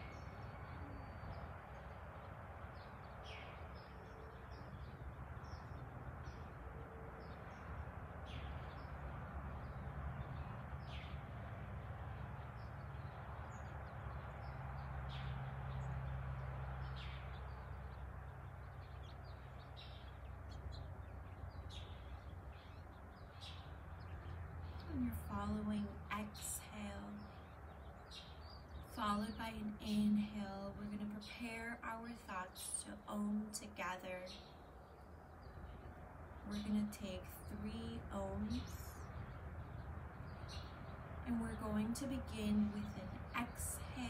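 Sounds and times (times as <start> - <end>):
low background rumble: 0.0 - 44.0
small birds chirping: 0.0 - 44.0.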